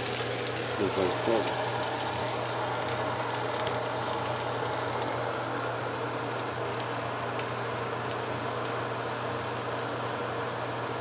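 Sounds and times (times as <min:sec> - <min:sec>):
bread sizzling in a frying pan: 0:00.0 - 0:11.0
steady low hum: 0:00.0 - 0:11.0.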